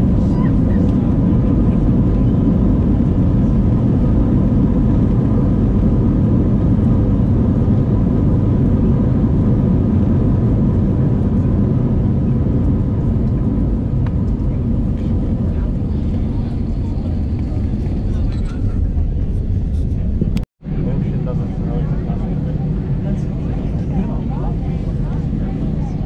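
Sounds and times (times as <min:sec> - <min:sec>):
jet airliner engine rumble: 0:00.0 - 0:26.0.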